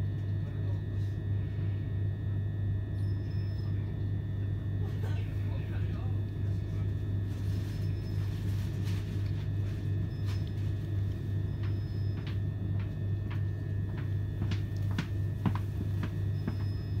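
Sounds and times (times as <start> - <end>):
train carriage low hum: 0.0 - 17.0.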